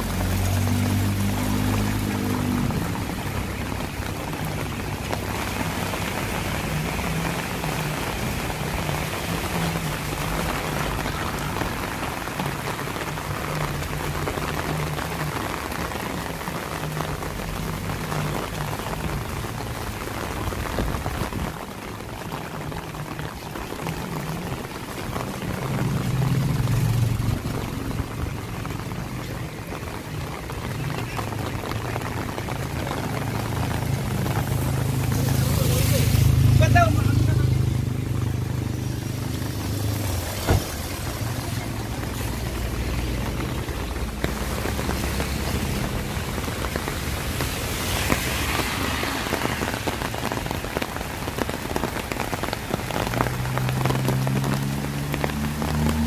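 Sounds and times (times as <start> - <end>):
rain on wet street: 0.0 - 56.0.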